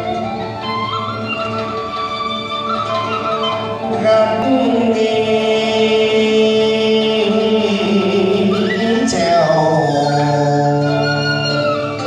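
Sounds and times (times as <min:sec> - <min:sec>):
traditional music with held notes: 0:00.0 - 0:12.0.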